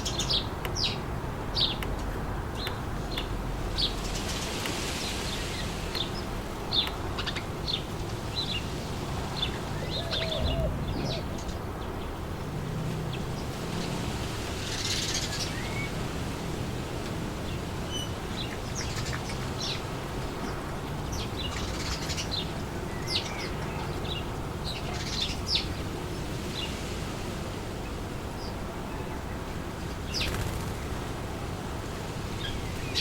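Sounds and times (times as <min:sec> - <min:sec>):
wind blowing through trees: 0:00.0 - 0:33.0.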